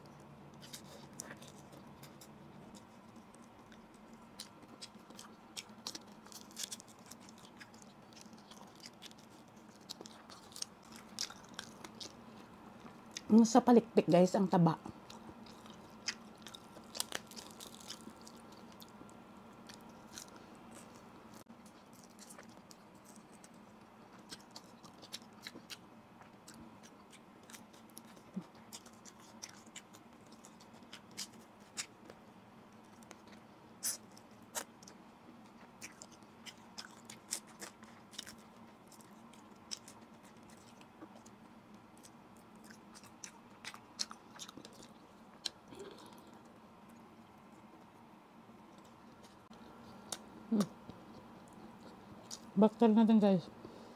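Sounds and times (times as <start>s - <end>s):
soft chewing: 0.0s - 13.5s, 14.2s - 53.9s
faint steady hum: 0.0s - 53.9s.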